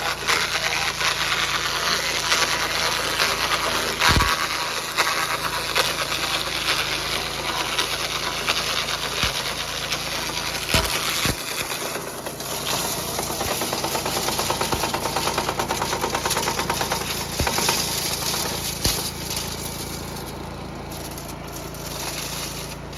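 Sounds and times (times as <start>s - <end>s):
fast rattle: 0.0s - 22.9s
shredder chipper engine running: 0.0s - 22.9s.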